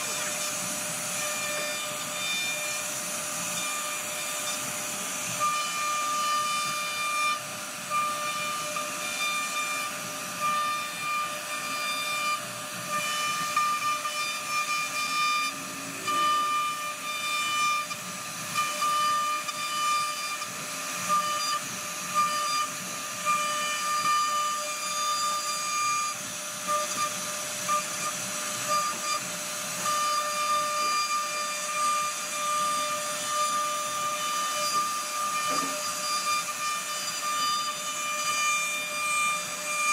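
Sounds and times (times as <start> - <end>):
cutter chipping wood: 0.0 - 39.9
router spindle whine: 0.0 - 39.9.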